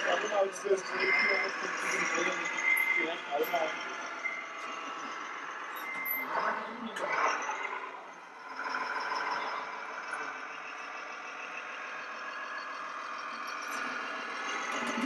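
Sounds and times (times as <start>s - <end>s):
engine sound from small speakers: 0.0s - 15.0s.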